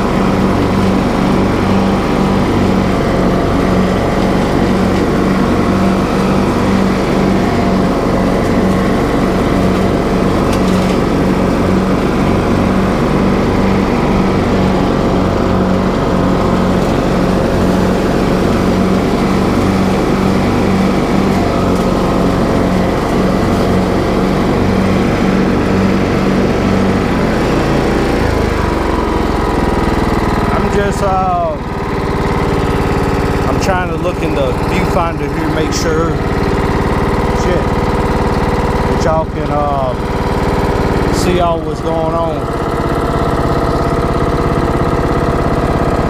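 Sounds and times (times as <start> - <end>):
riding lawn mower engine running: 0.0 - 46.0.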